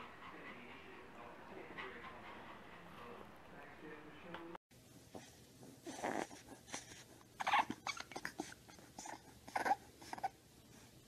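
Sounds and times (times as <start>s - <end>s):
puppy breathy vocal noises: 0.0s - 3.5s, 5.1s - 11.0s.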